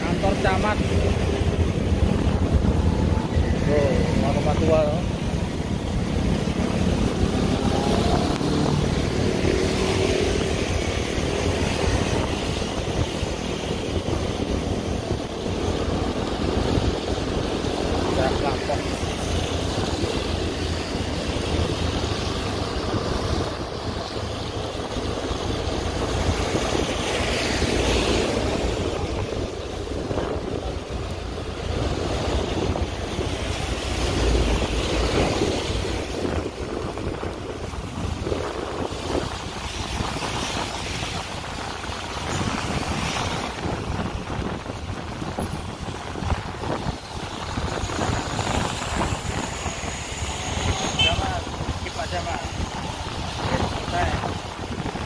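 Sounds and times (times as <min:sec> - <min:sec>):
vehicle rumbling on wet road: 0:00.0 - 0:55.0
wind over microphone: 0:00.0 - 0:55.0.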